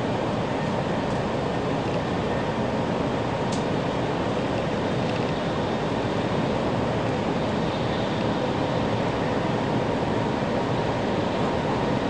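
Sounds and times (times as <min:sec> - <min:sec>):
train rushing noise inside car: 0:00.0 - 0:12.0.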